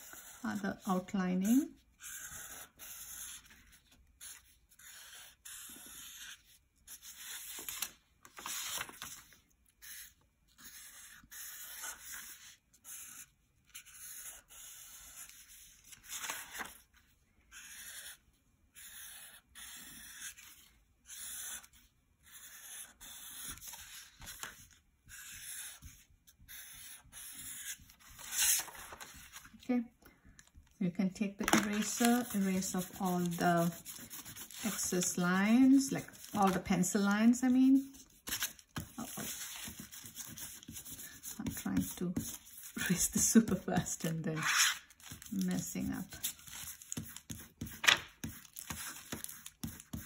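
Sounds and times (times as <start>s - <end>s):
marker scratching on paper: 0.0s - 7.6s, 9.8s - 16.4s, 17.5s - 28.5s, 31.5s - 45.2s, 46.5s - 50.0s.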